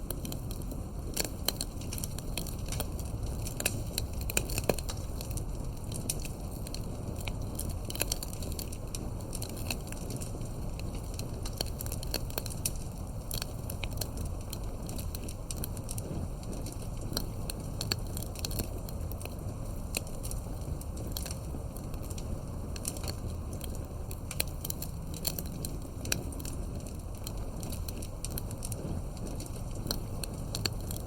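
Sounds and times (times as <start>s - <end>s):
campfire crackling and popping: 0.0s - 31.0s
low fire rumble: 0.0s - 31.0s.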